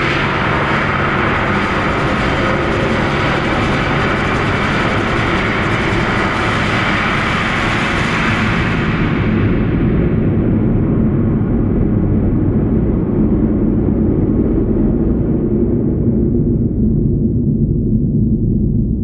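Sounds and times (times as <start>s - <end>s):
dense noisy spring drone: 0.0s - 19.0s.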